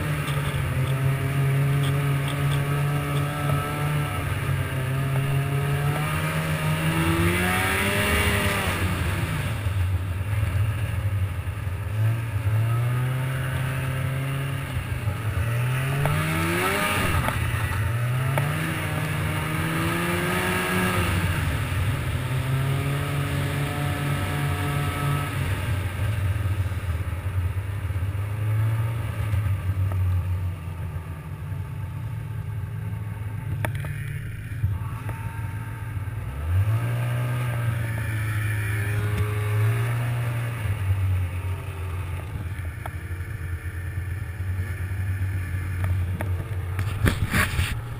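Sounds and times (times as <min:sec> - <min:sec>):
snowmobile engine revving: 0:00.0 - 0:29.7, 0:33.2 - 0:47.9.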